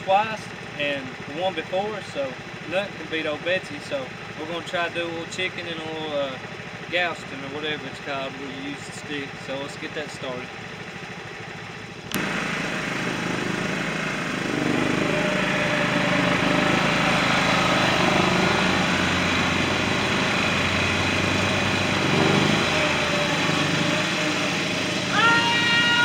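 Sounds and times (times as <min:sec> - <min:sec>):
riding lawn mower engines: 0:00.0 - 0:26.0.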